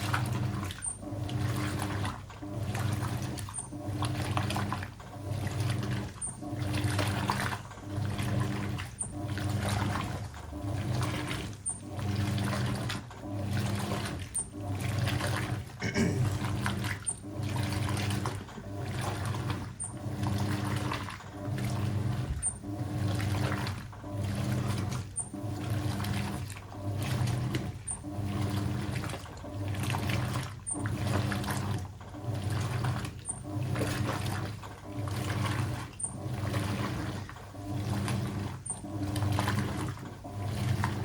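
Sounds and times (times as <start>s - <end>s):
washing machine motor humming: 0.0s - 41.0s
water sloshing: 0.0s - 41.0s.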